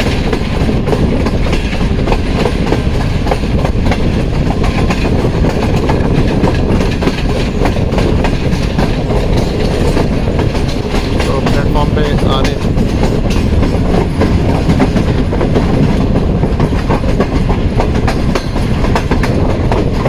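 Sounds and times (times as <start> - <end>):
train wheels rumbling: 0.0 - 20.0
wheels clacking over rail joints: 0.0 - 20.0.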